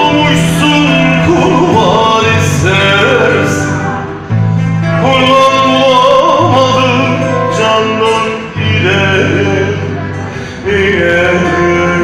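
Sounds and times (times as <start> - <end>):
man singing folk song: 0.0 - 12.0.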